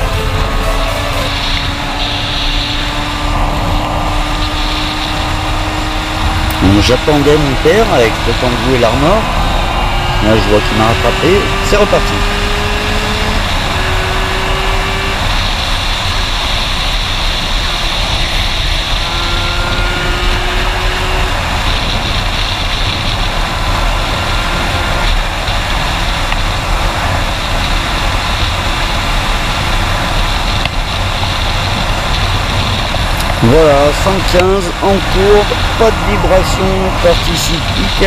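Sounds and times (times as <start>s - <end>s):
two-stroke motorcycle engine revving: 0.0s - 38.0s
wind rushing on microphone: 0.0s - 38.0s.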